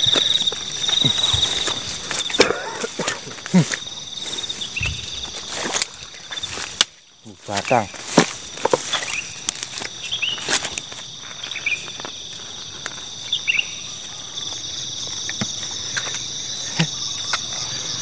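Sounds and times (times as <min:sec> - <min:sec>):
crickets and insects trilling: 0:00.0 - 0:18.0
footsteps through grass: 0:00.0 - 0:18.0
rustling undergrowth: 0:00.0 - 0:18.0.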